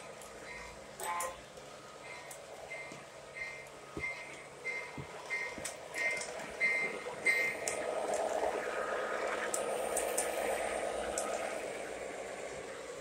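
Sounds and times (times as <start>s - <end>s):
model train rolling rumble: 0.0s - 13.0s.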